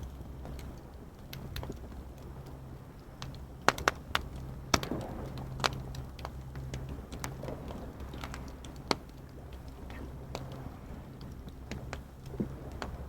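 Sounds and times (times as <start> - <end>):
low steady rumble: 0.0 - 13.0
wood fire crackling: 0.0 - 13.0.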